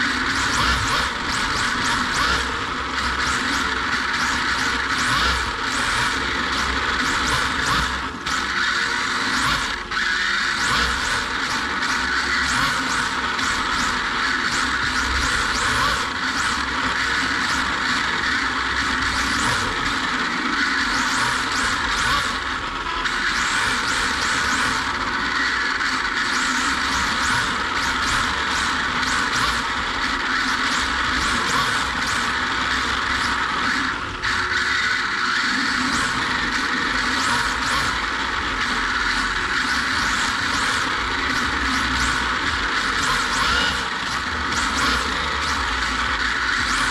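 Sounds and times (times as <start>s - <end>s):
electric motor whine: 0.0s - 46.9s
gear and tyre noise: 0.0s - 46.9s.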